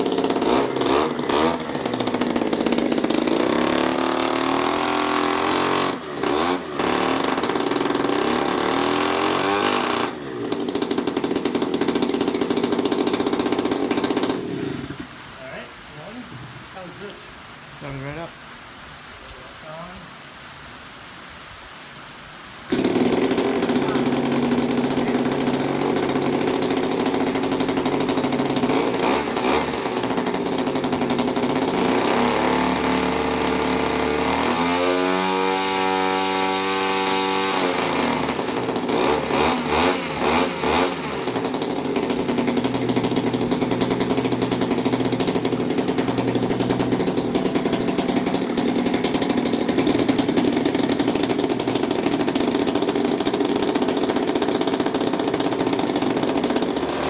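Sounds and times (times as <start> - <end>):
model aircraft engine running: 0.0 - 15.0, 22.7 - 57.0.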